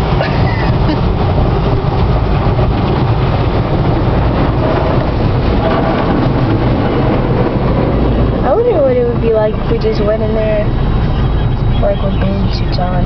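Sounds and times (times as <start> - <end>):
car wash spraying water: 0.0 - 13.0.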